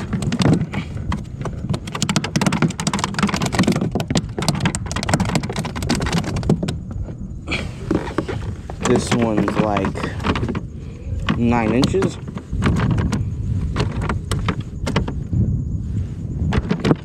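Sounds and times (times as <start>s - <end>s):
fish clicking and knocking: 0.0s - 15.3s, 16.5s - 17.0s.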